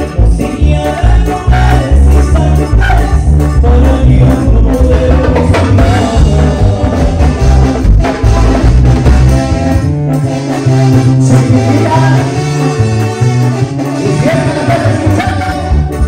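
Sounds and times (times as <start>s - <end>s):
latin band music: 0.0s - 16.0s.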